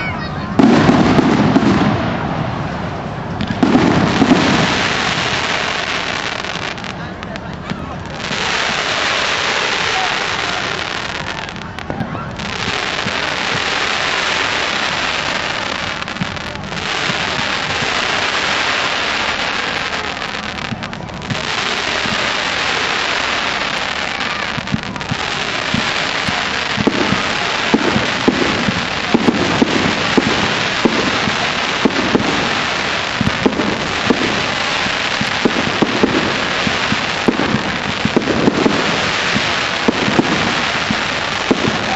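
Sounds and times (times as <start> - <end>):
fireworks crackling: 0.0 - 41.9
fireworks sharp bangs: 0.0 - 41.9.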